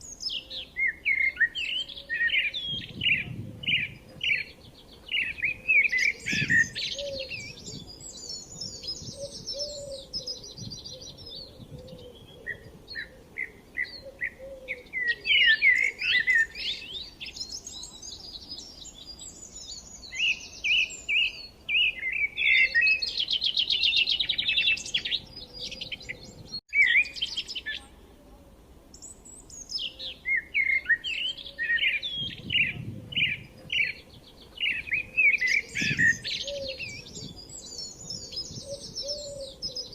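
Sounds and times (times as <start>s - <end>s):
birds singing: 0.0s - 28.0s, 28.9s - 39.9s.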